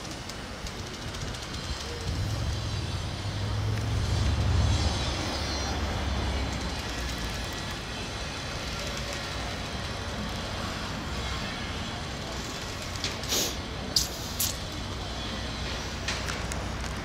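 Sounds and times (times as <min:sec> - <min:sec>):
low engine rumble: 0:00.0 - 0:17.0
outdoor background noise: 0:00.0 - 0:17.0.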